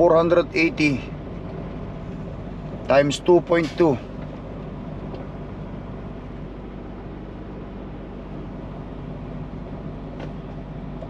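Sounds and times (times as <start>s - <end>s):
road noise: 0.0s - 11.0s
truck diesel engine running: 0.0s - 11.0s.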